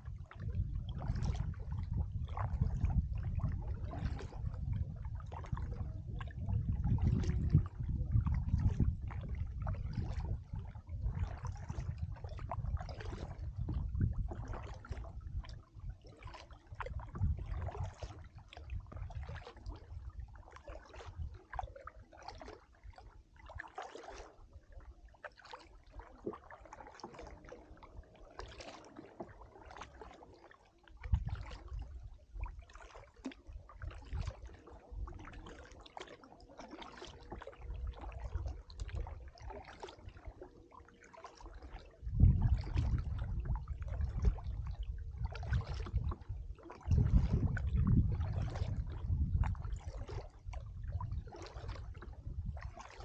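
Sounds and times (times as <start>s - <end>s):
kayak paddle stroking water: 0.0s - 53.0s
water drips and splashes: 0.0s - 53.0s.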